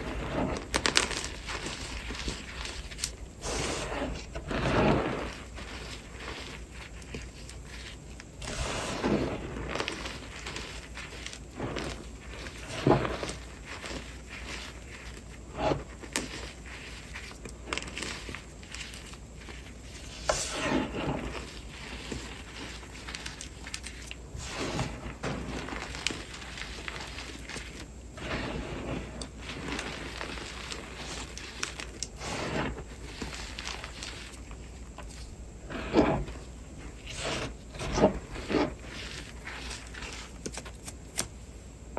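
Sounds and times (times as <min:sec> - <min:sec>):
chalk crunching: 0:00.0 - 0:41.4
gritty rustle of crushed chalk: 0:00.0 - 0:41.4
powder rubbing: 0:00.0 - 0:41.4.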